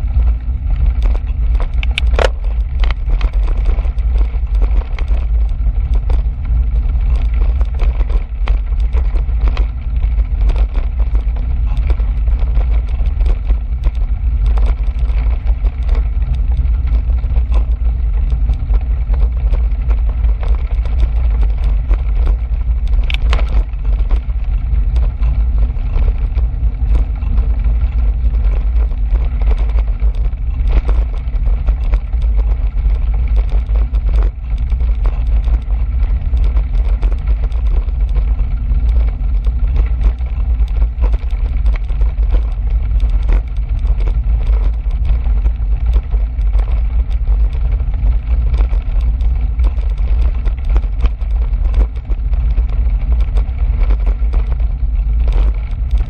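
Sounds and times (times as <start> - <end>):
small clicks and rattles: 0.0 - 56.0
wind buffeting microphone: 0.0 - 56.0.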